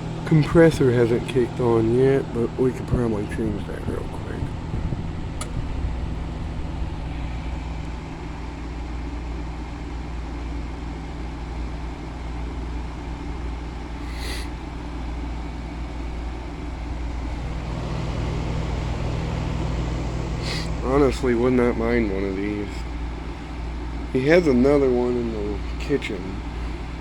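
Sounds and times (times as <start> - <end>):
air conditioner fan noise: 0.0 - 27.0
compressor hum: 0.0 - 27.0.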